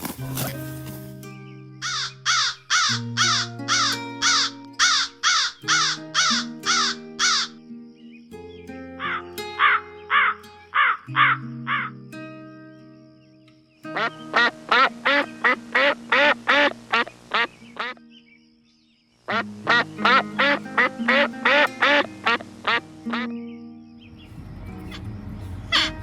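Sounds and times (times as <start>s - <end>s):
background music of sustained notes: 0.0s - 26.0s.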